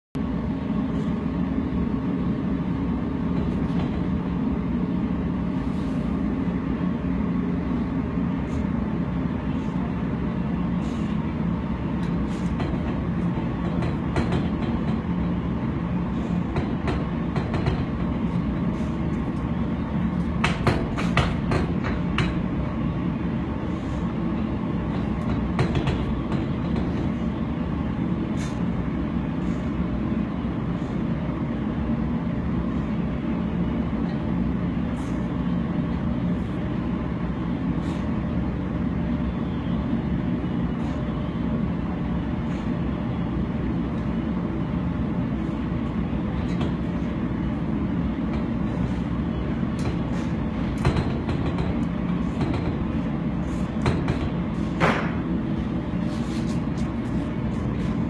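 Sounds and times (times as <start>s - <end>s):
low machinery rumble: 0.2s - 58.0s.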